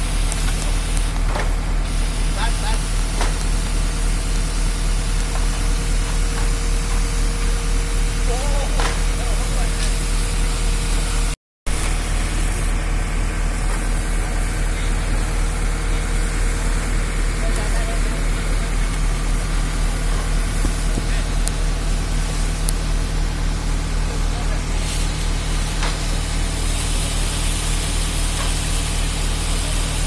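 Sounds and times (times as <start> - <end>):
diesel engine idling: 0.0 - 11.4, 12.0 - 30.0.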